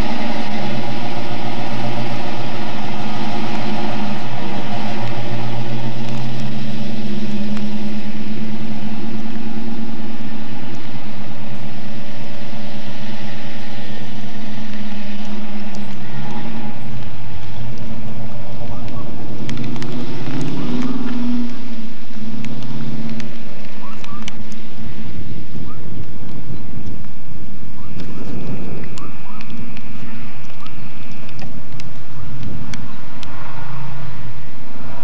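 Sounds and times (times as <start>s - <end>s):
car engine running: 0.0s - 35.0s
wind rumbling on microphone: 0.0s - 35.0s.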